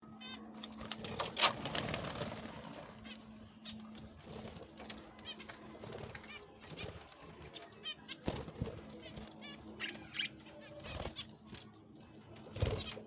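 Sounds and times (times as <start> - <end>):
birds warbling chirps: 0.0 - 13.0.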